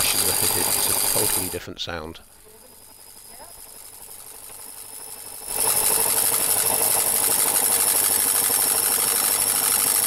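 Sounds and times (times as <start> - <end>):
motor brush arcing crackle: 0.0 - 10.0
washing machine motor spinning: 0.0 - 10.0.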